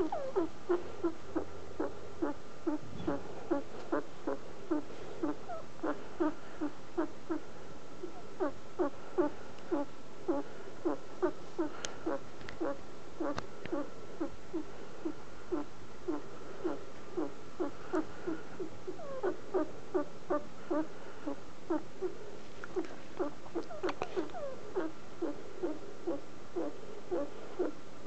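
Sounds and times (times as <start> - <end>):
guinea pig calling: 0.0 - 22.1, 22.8 - 27.8.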